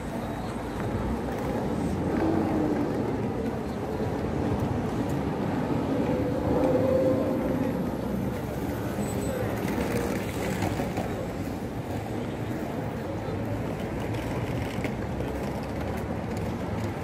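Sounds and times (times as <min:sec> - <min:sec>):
bus driving through: 0:00.0 - 0:17.0
street traffic: 0:00.0 - 0:17.0.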